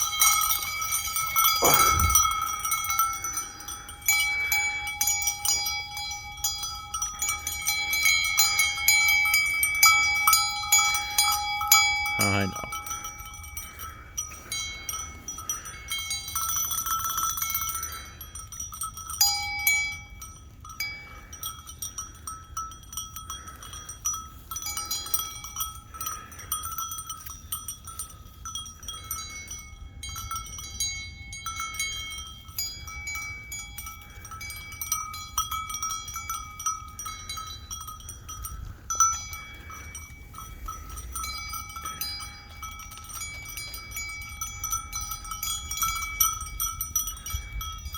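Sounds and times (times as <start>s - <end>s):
metal bells clanking: 0.0s - 47.9s.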